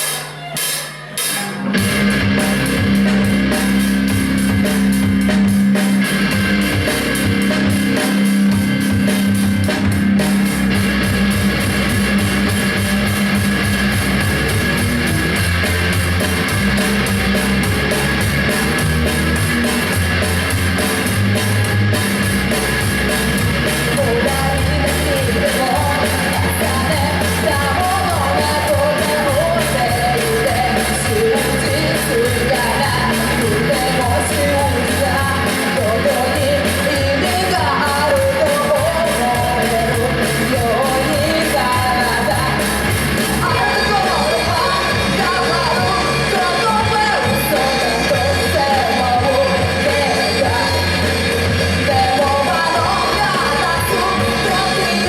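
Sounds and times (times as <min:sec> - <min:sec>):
heavy rock music: 0:00.0 - 0:55.0.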